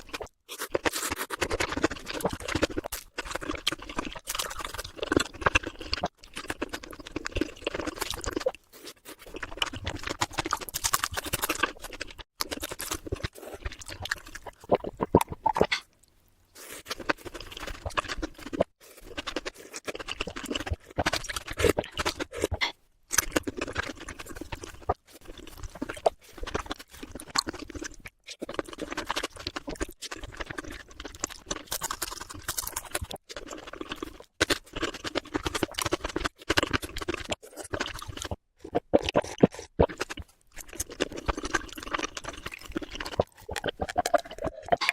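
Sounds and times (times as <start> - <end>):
wet chewing sounds: 0.0 - 44.9.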